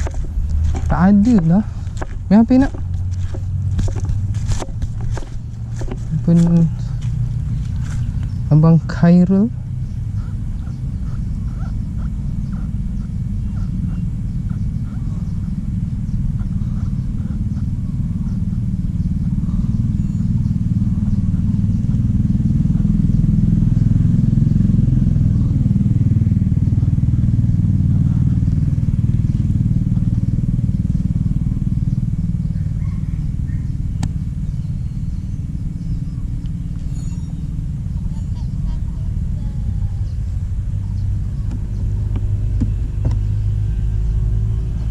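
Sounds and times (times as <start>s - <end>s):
low engine rumble: 0.0s - 44.9s.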